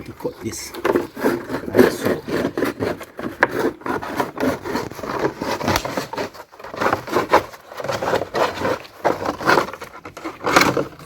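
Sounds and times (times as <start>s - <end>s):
plastic scraping and rubbing: 0.0s - 11.0s.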